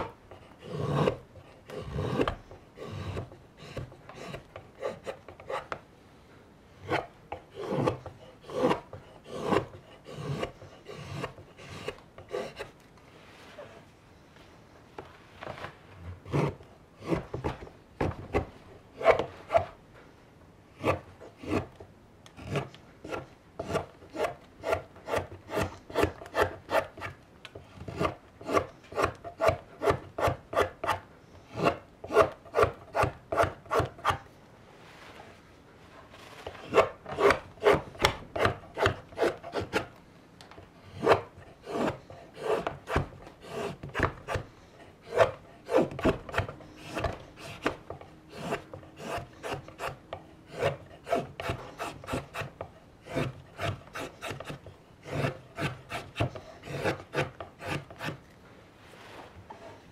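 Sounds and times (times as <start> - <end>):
knife scraping wood: 0.0 - 5.8, 6.8 - 12.8, 15.4 - 17.7, 18.3 - 19.8, 20.8 - 21.8, 22.4 - 34.3, 36.1 - 40.0, 40.8 - 58.3.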